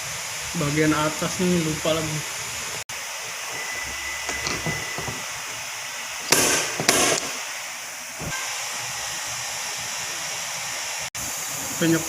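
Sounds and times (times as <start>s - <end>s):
steady airy hiss: 0.0s - 12.0s.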